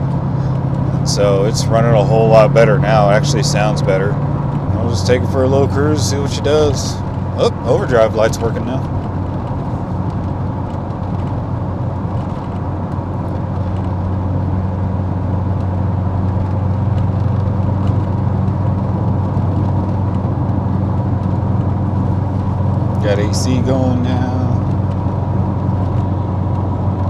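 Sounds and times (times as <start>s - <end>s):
car engine cruising: 0.0s - 27.0s
road noise: 0.0s - 27.0s.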